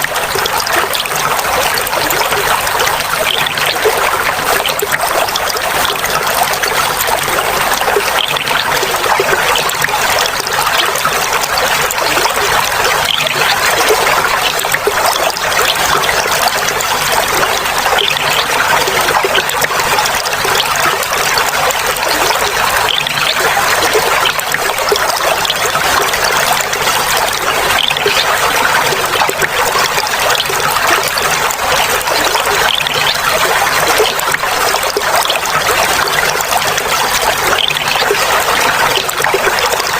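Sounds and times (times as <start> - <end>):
water trickling over cascade: 0.0 - 39.9.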